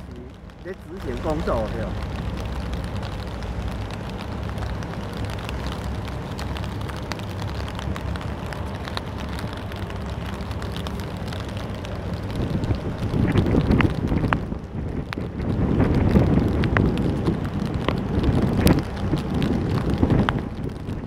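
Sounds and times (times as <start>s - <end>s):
raindrops ticking: 0.0s - 21.0s
wind buffeting microphone: 0.0s - 21.0s.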